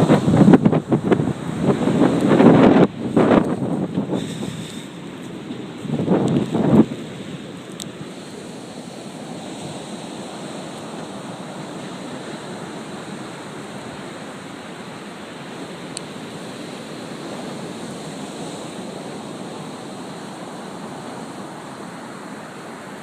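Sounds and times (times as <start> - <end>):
surf on the shore: 0.0 - 23.0
wind: 0.0 - 23.0.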